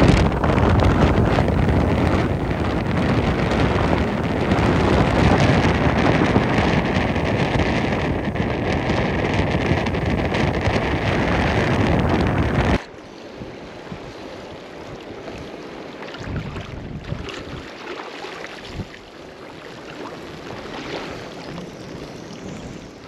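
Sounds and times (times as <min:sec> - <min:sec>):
water rushing: 0:00.0 - 0:23.0
wind on microphone: 0:00.0 - 0:23.0.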